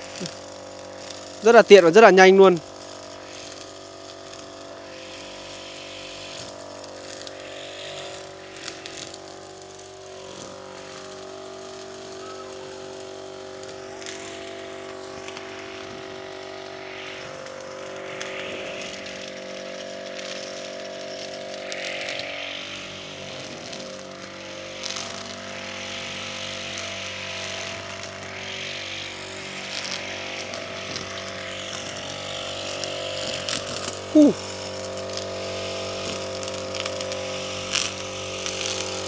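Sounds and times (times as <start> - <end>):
brush cutter running: 0.0 - 39.0
line cutting through grass: 0.0 - 39.0.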